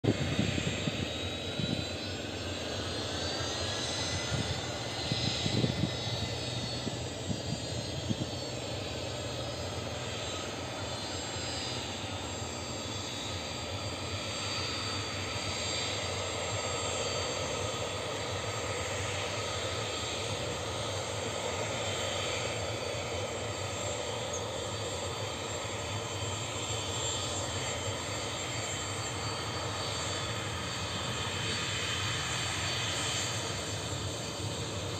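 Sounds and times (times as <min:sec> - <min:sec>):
jet engines whining: 0:00.0 - 0:34.9.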